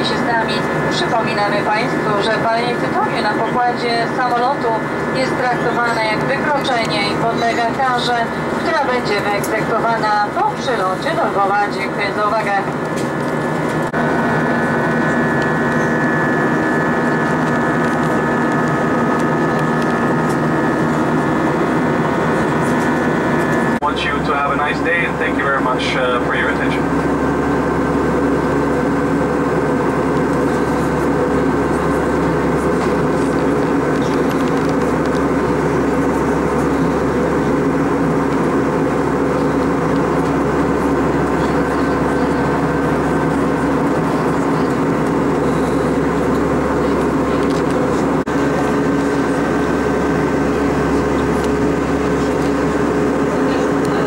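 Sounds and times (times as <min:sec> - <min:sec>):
airplane cabin noise: 0:00.0 - 0:54.0.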